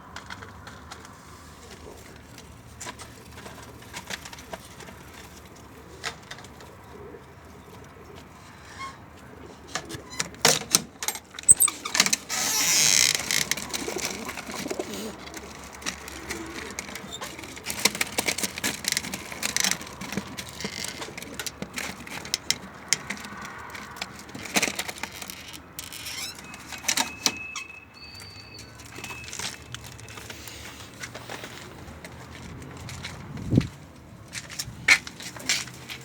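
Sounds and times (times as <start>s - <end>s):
pigeons scuffling and clicking: 0.0s - 36.0s.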